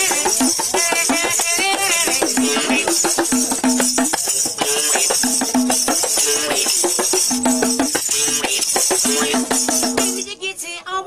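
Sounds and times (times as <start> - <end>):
jingling rattle: 0.0 - 10.4.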